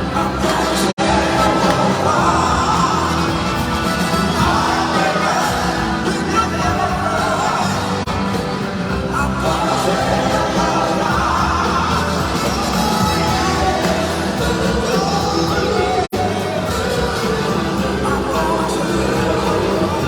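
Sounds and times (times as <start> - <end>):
live rock band with singing: 0.0 - 20.0.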